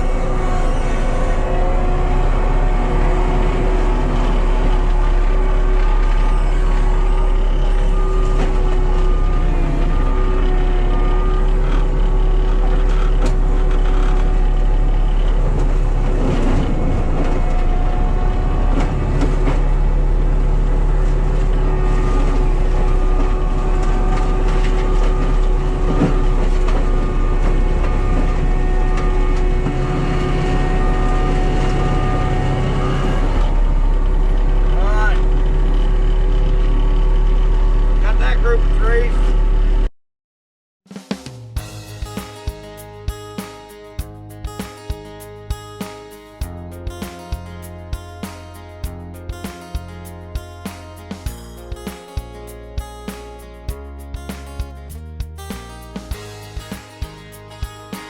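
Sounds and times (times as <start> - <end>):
diesel engine and mulcher whine: 0.0 - 39.9, 41.6 - 58.0.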